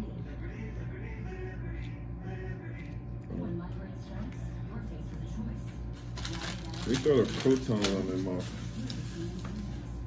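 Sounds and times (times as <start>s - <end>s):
background music held tones: 0.0s - 8.4s.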